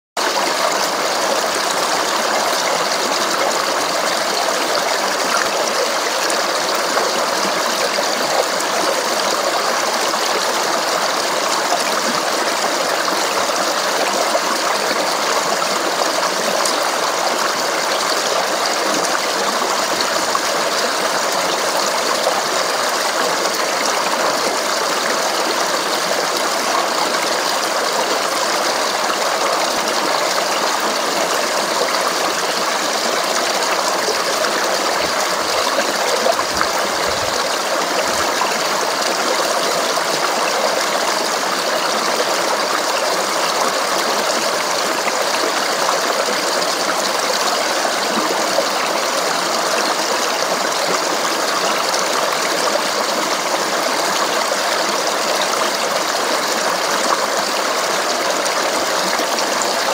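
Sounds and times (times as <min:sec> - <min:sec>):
stream babbling over rocks: 0:00.2 - 0:59.9.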